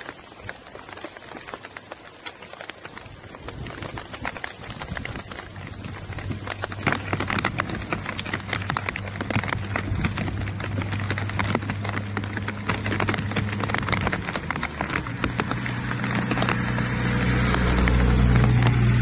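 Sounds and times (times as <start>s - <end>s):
scattered clicks and taps: 0.4s - 19.0s
vehicle engine hum: 2.8s - 19.0s.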